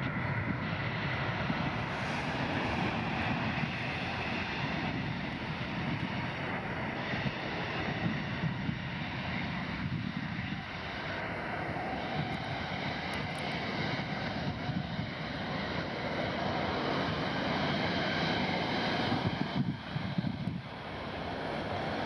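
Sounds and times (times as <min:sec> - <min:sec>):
jet engines running: 0:00.0 - 0:22.0
wind on microphone: 0:00.0 - 0:22.0.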